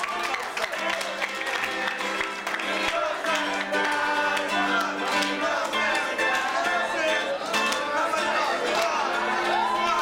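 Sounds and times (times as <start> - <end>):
acoustic guitar strumming: 0.0 - 10.0
people singing along: 0.6 - 10.0.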